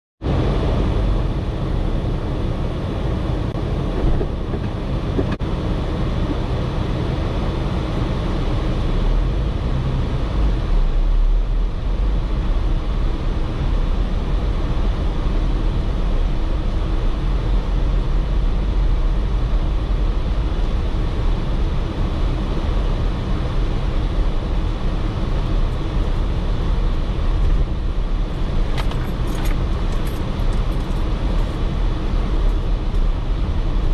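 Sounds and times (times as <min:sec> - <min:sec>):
car engine rumble: 0:00.2 - 0:33.9
road noise: 0:00.2 - 0:33.9.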